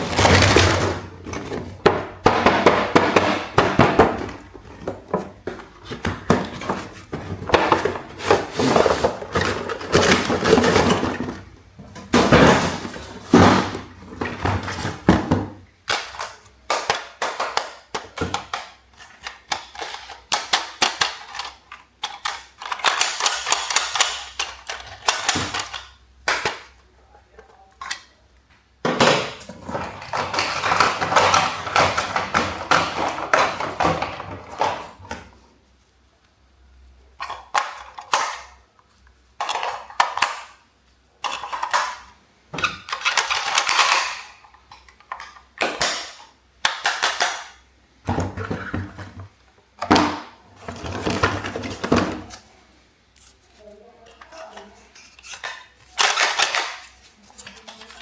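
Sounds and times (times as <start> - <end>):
plastic toys rattling and clattering: 0.0 - 26.8, 28.8 - 35.4, 37.1 - 52.6, 53.2 - 58.0.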